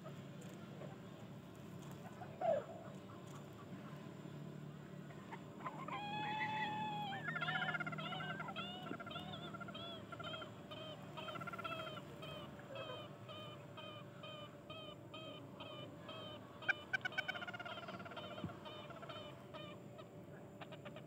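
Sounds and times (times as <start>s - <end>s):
chickens calling: 1.8s - 21.0s.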